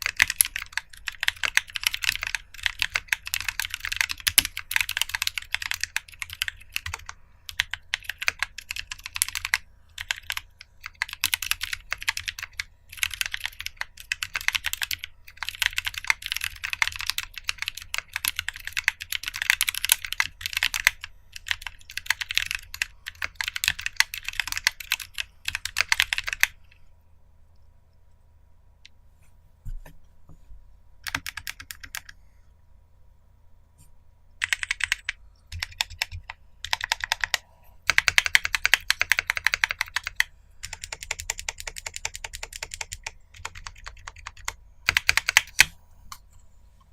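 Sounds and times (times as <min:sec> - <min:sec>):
typing on mechanical keyboard: 0:00.0 - 0:26.8, 0:31.0 - 0:32.2, 0:34.4 - 0:45.8.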